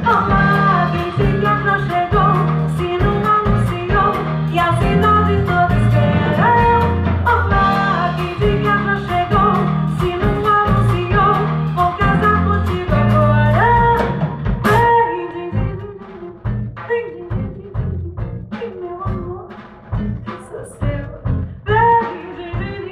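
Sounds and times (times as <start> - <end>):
woman singing: 0.0 - 19.6, 20.2 - 22.9
live band music: 0.0 - 22.9.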